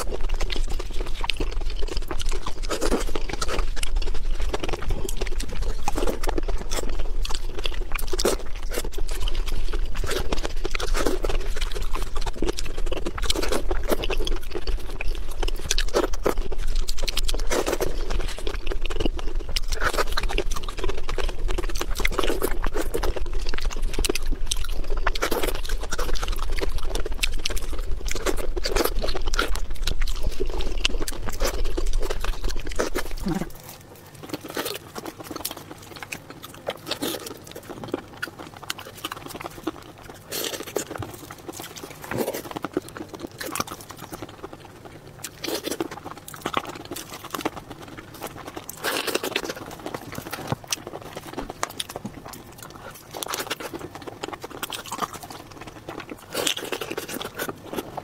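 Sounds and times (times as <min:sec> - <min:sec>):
steady low hum: 0:00.0 - 0:58.0
wet chewing and sucking: 0:00.0 - 0:58.0.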